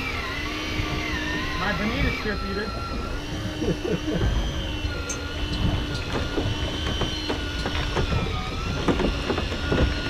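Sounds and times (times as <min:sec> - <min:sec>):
fishing reel motor whine: 0:00.0 - 0:10.0.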